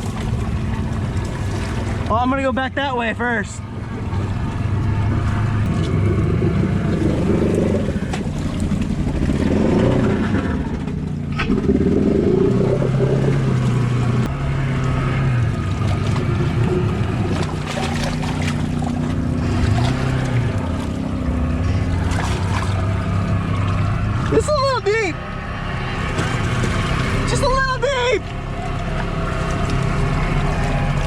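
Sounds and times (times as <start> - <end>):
vehicle driving through water: 0.0 - 31.0
vehicle engine revving: 3.6 - 31.0.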